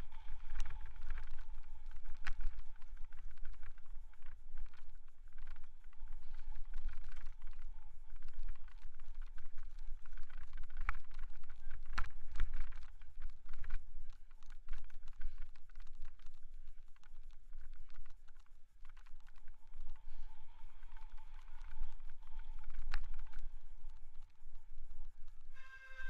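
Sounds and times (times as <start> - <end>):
bicycle rattling and clicking: 0.0 - 26.0.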